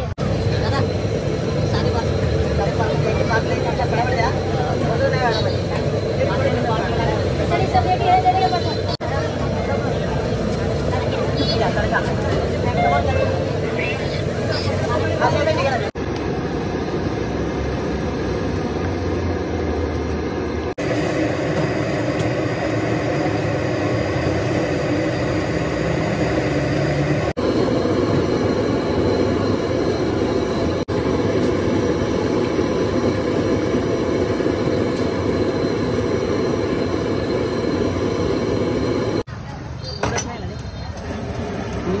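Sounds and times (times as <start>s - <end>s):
busy kitchen roaring noise: 0.0s - 42.0s.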